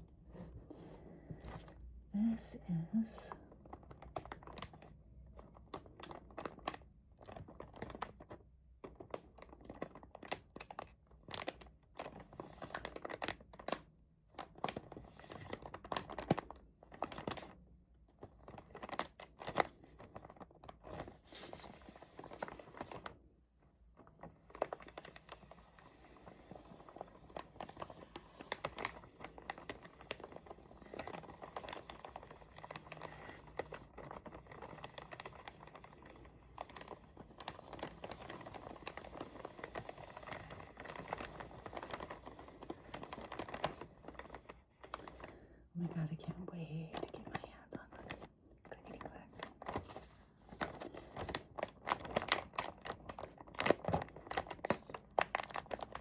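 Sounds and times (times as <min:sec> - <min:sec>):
packaging crinkling and rustling: 0:03.3 - 0:56.0.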